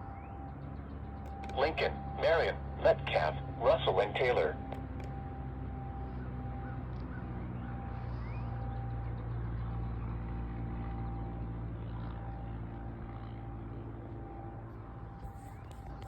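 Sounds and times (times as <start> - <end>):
distant warning sirens: 0.0 - 16.0
steady low hum: 0.0 - 16.0.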